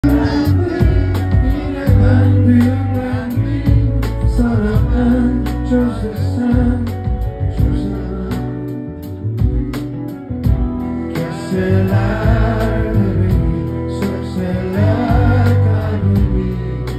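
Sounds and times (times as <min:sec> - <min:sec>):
person singing: 0:00.0 - 0:09.4, 0:10.8 - 0:16.9
heavy bass: 0:00.0 - 0:16.9.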